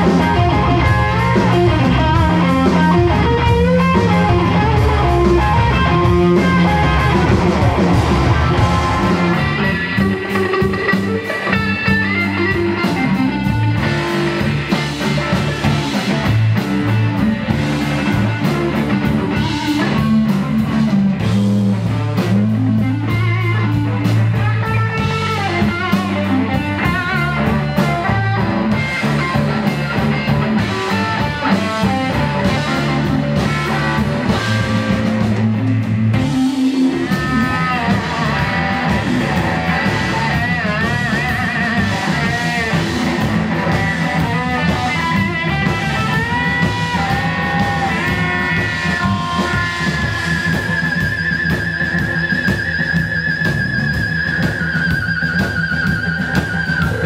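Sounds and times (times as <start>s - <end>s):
drum kit steady beat: 0.0s - 57.0s
electric bass: 0.0s - 57.0s
electric guitar: 0.0s - 57.0s.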